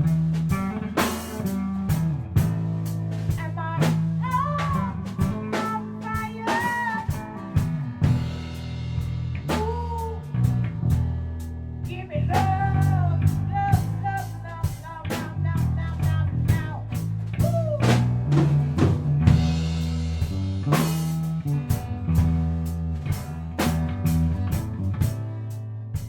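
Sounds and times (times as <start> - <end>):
electric guitar lead: 0.0 - 25.8
bass guitar line: 0.0 - 26.0
blues-rock band playing: 0.0 - 26.0
drum kit: 0.0 - 26.0.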